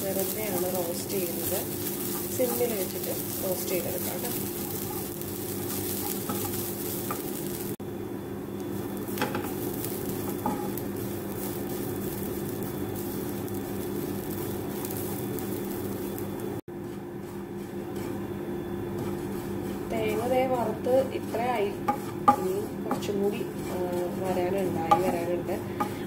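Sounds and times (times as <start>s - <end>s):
coconut sizzling in a pan: 0.0s - 26.0s.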